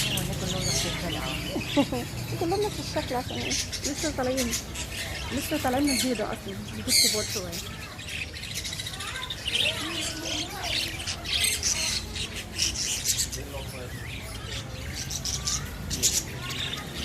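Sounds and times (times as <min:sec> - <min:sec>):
young birds chirping and squawking: 0:00.0 - 0:17.0.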